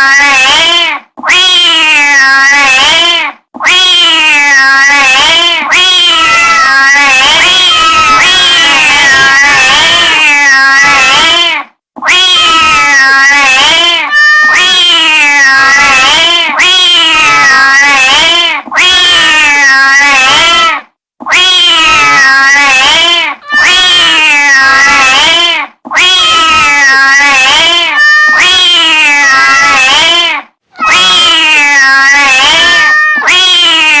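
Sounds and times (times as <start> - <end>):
cat yowling: 0.0 - 34.0.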